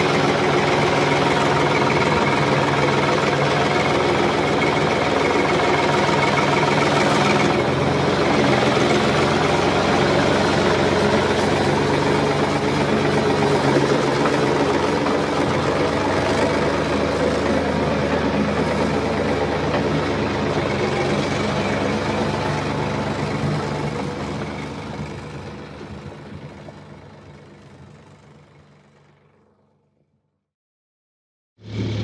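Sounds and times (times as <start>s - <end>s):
combine harvester engine droning: 0.0s - 30.1s, 31.6s - 32.0s.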